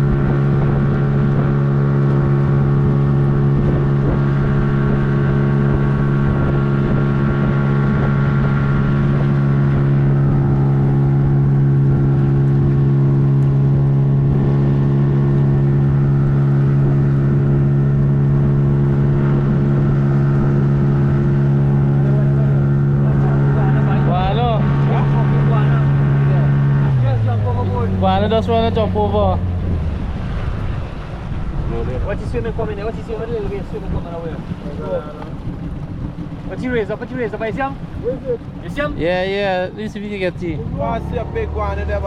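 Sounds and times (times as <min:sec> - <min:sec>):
motorboat engine running: 0:00.0 - 0:42.0
wind buffeting microphone: 0:00.0 - 0:42.0.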